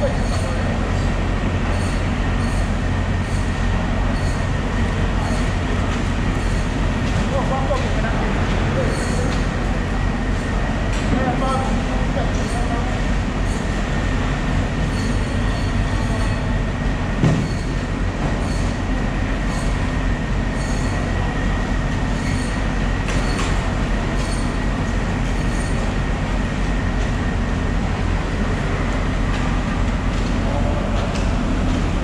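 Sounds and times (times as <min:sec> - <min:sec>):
loud machinery drone: 0:00.0 - 0:32.0.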